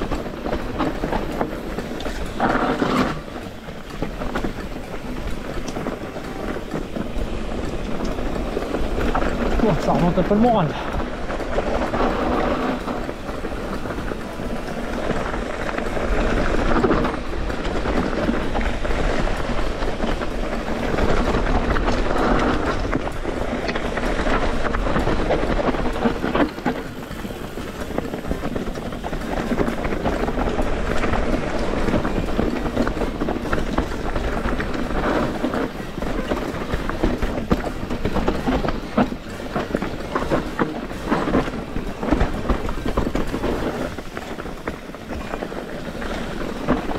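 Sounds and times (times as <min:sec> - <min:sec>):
bike rattling: 0:00.0 - 0:46.9
tyres crunching over stones: 0:00.0 - 0:46.9.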